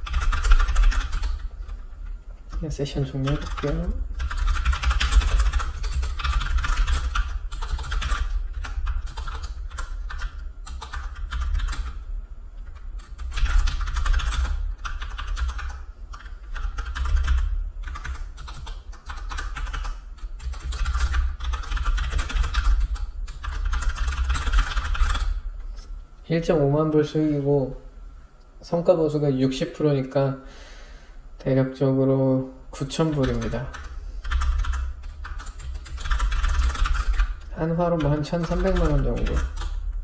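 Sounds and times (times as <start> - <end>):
computer keyboard typing: 0.0 - 25.4, 32.8 - 40.0.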